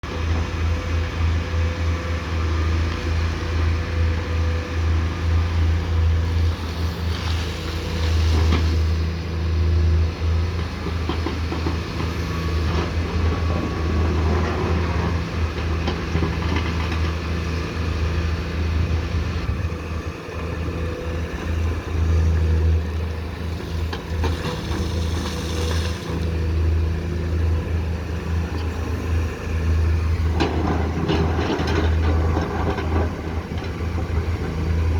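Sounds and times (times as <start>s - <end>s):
excavator diesel engine humming: 0.0s - 34.9s.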